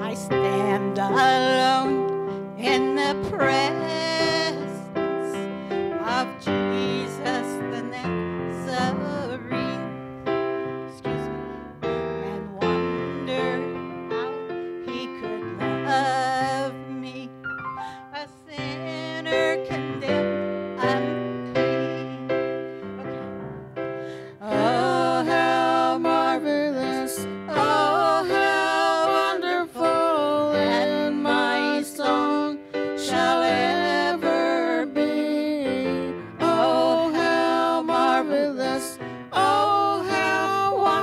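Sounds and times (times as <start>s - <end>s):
person singing: 0.0s - 10.0s, 11.0s - 23.3s, 24.1s - 41.0s
keyboard playing hymn: 0.0s - 41.0s.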